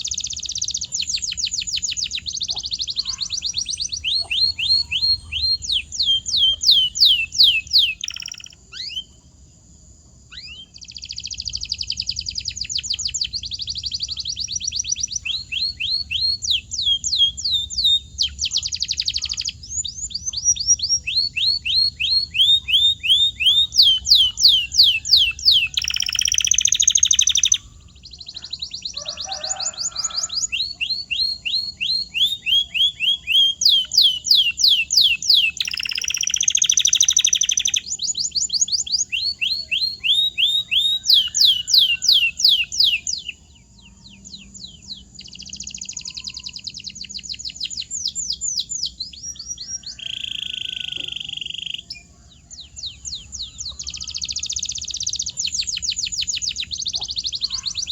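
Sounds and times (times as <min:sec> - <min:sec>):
canary singing: 0:00.0 - 0:09.4, 0:10.3 - 0:57.9.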